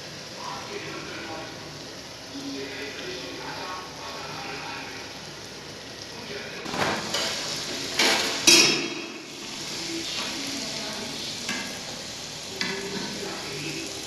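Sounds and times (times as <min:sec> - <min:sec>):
deep-frying sizzle in oil: 0:00.0 - 0:14.0.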